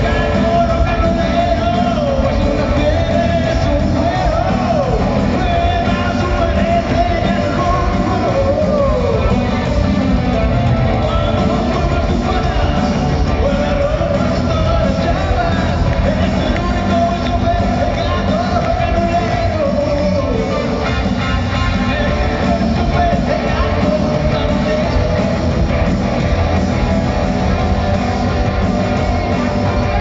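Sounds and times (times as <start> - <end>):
live pop-rock band: 0.0 - 30.0.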